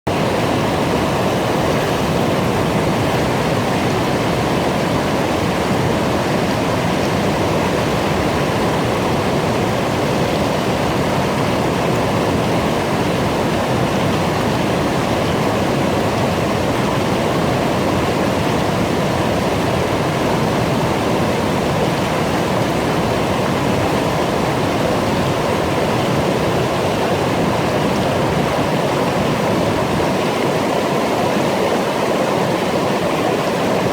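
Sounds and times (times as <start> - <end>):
brook babbling: 0.1 - 33.9.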